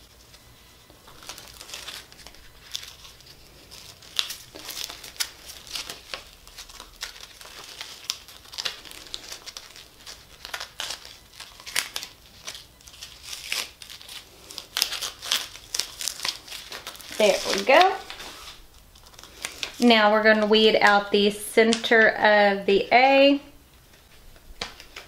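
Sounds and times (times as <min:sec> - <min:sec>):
vinyl peeling and crinkling: 0:00.0 - 0:22.2, 0:23.7 - 0:25.0.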